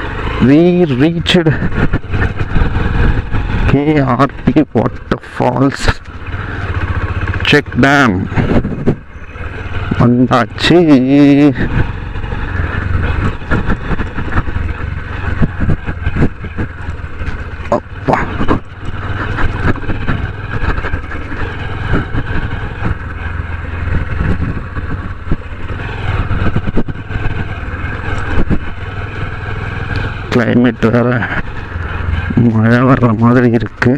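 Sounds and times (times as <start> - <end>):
motorcycle engine running: 0.0 - 33.9
wind and road noise: 0.0 - 33.9.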